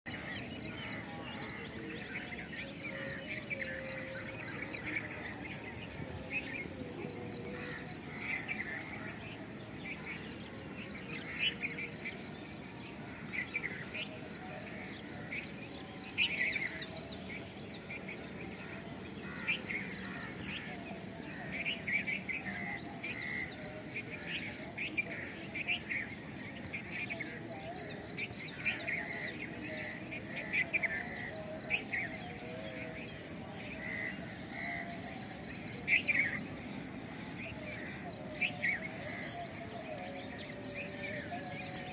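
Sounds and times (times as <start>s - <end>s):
many birds chirping: 0.0s - 41.9s.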